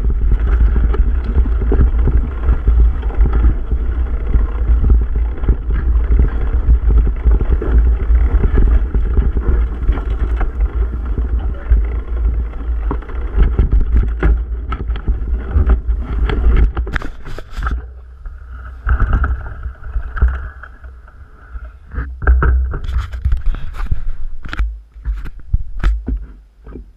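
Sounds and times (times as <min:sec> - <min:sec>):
wind buffeting microphone: 0:00.0 - 0:26.2
bike rattling and clicking: 0:00.0 - 0:26.9
bike tyres rumbling over ground: 0:00.0 - 0:26.9
scrapes: 0:00.0 - 0:26.9.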